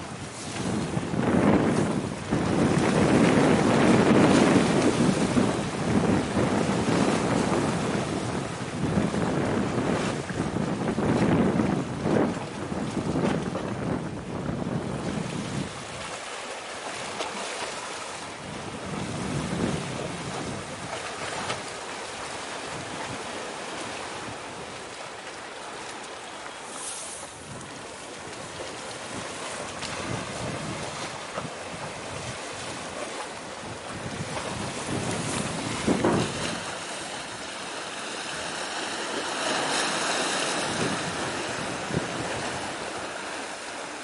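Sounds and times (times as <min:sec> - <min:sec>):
wind buffeting microphone: 0:00.0 - 0:16.2, 0:16.9 - 0:25.1, 0:27.2 - 0:44.0
sea waves: 0:00.0 - 0:44.0.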